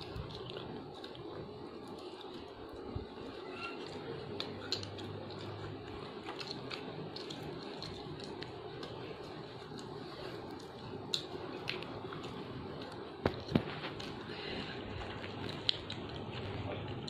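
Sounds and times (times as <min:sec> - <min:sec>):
biscuits crunching: 0:00.0 - 0:17.0
low background hum: 0:00.0 - 0:17.0.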